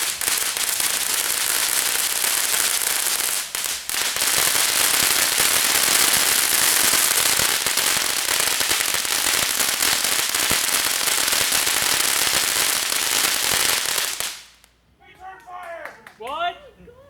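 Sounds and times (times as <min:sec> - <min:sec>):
firework crackling: 0:00.0 - 0:14.8.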